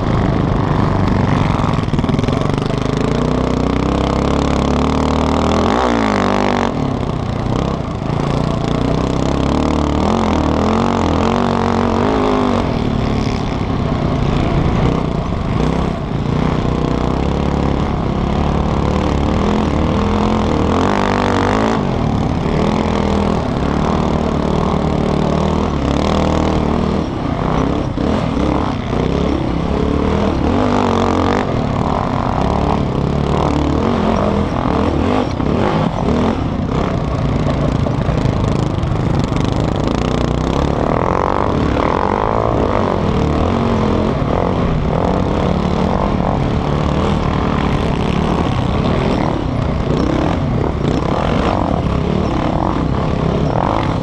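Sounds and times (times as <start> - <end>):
quad engine revving: 0.0 - 54.0
wind and dirt noise: 0.0 - 54.0.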